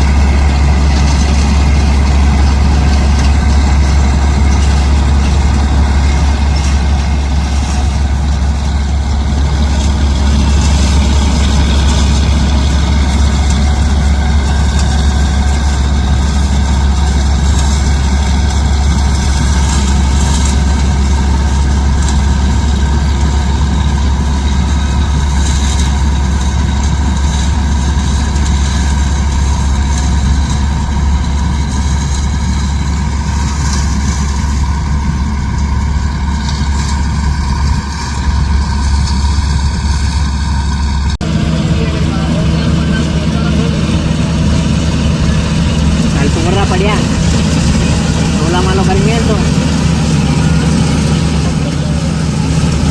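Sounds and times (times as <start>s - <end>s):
diesel engine running loudly: 0.0s - 52.9s.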